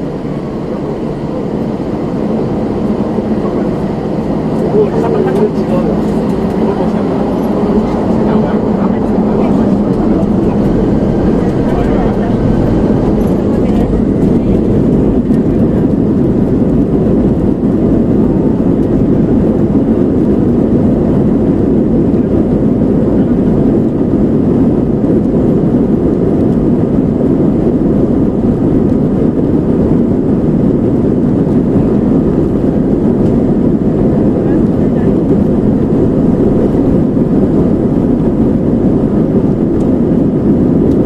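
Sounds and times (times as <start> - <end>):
jet engines at takeoff thrust: 0.0 - 41.0.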